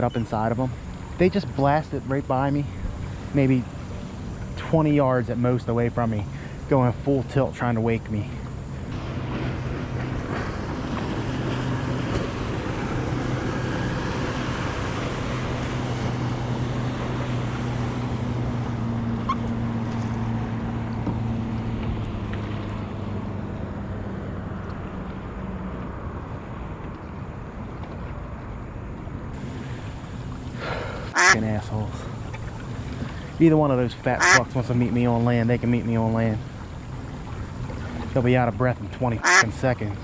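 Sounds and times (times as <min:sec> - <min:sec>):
outboard motor humming: 0:00.0 - 0:40.0
water wash: 0:00.0 - 0:40.0.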